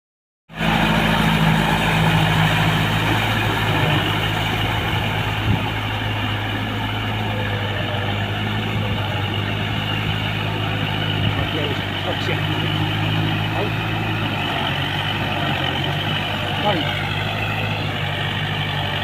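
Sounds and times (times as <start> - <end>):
diesel tractor engine running: 0.5 - 19.0.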